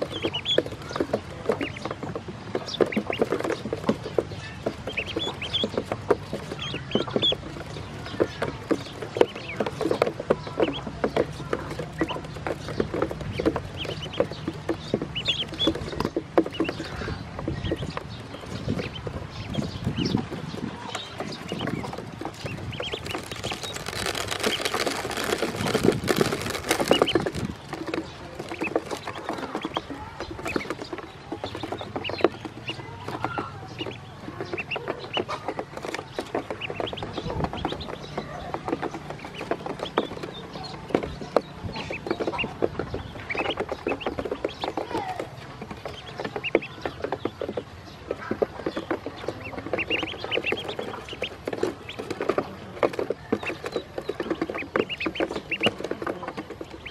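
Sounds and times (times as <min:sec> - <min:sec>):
bills tapping plastic floor: 0:00.0 - 0:56.9
ducklings peeping: 0:00.0 - 0:56.9.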